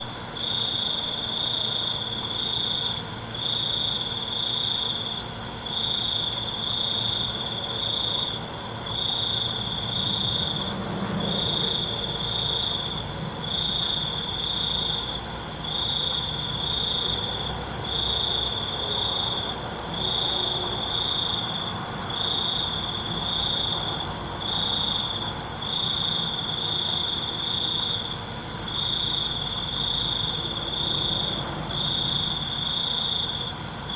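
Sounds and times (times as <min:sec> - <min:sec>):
cricket trilling: 0:00.0 - 0:33.9
faint fast-pulsing insect call: 0:00.0 - 0:33.9.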